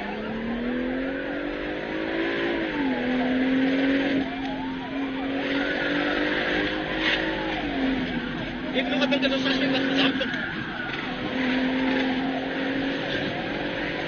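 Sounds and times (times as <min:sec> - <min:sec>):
car engine accelerating hard: 0:00.0 - 0:14.0
police siren yelping: 0:00.0 - 0:14.0.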